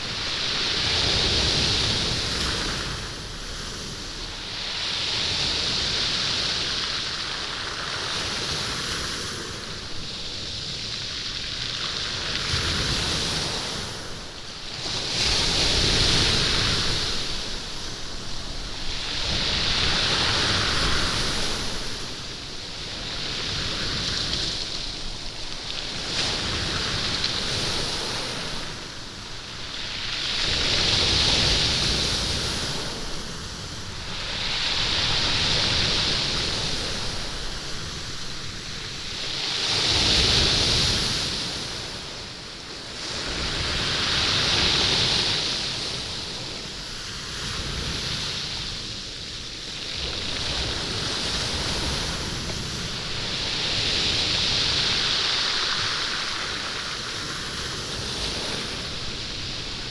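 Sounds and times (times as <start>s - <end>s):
waves washing over stones: 0.0s - 59.9s.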